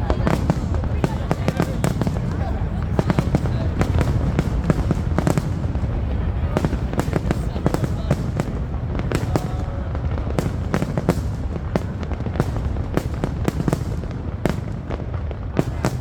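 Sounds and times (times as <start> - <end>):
distant firework rumble: 0.0 - 16.0
sharp firework bangs: 0.0 - 16.0.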